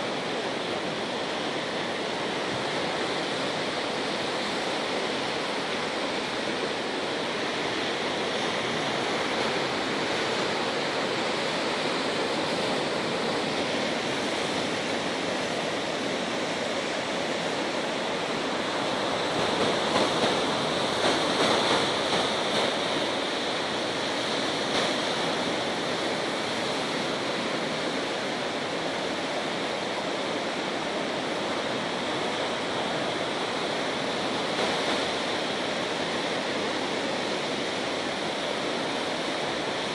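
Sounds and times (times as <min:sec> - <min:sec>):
sea surf washing ashore: 0:00.0 - 0:39.9.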